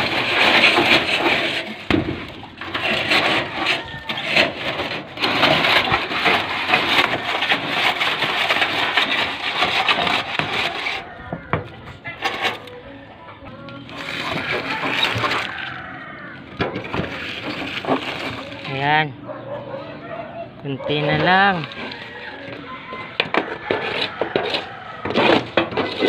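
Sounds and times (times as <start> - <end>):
stiff broom scraping gutter debris: 0.0 - 12.8, 13.8 - 26.0.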